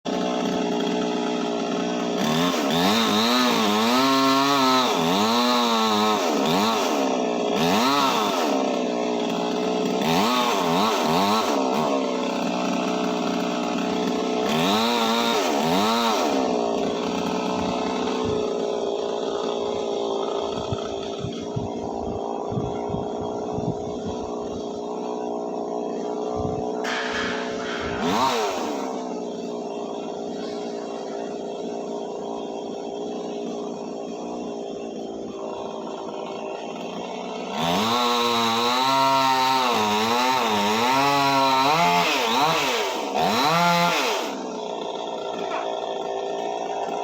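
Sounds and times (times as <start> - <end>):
chainsaw engine revving: 0.1 - 47.0.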